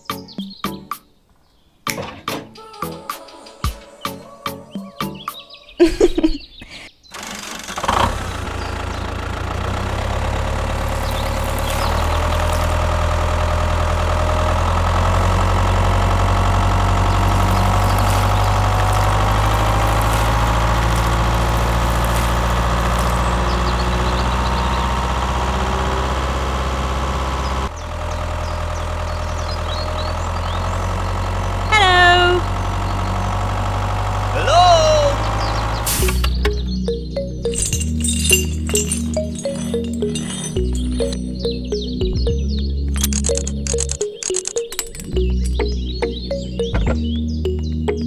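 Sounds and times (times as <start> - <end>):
tractor engine idling: 7.1 - 48.0.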